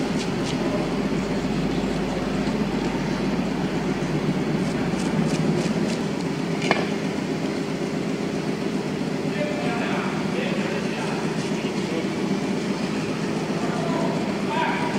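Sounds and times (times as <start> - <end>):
low rumbling background noise: 0.0 - 14.9.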